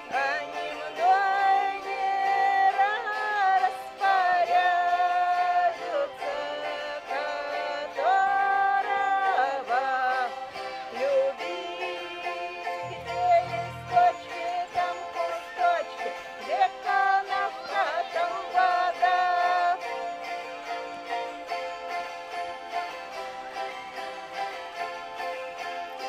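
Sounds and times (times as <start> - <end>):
person singing long sliding notes: 0.0 - 21.6
plucked psaltery music: 0.0 - 26.0.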